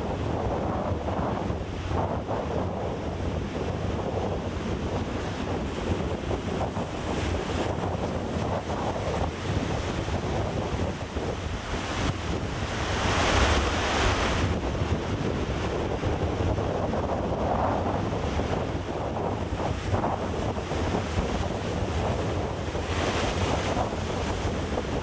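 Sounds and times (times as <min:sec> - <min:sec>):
ocean waves breaking: 0:00.0 - 0:25.0
wind rumbling on microphone: 0:00.0 - 0:25.0.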